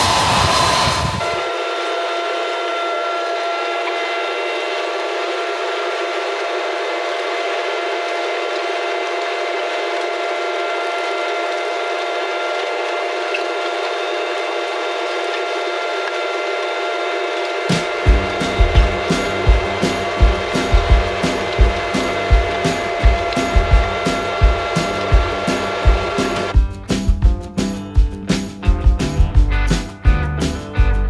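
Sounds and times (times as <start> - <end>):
machine whine: 0.0 - 26.6.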